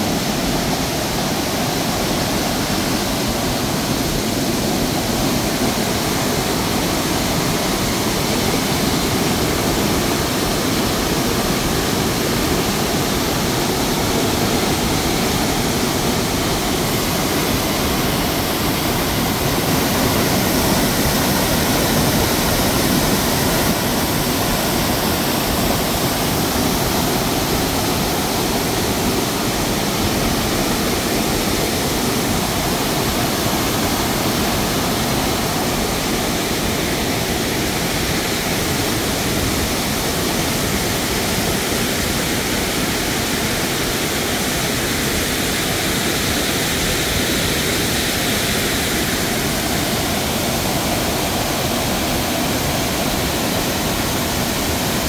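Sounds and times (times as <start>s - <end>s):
waterfall rushing over rocks: 0.0s - 55.0s.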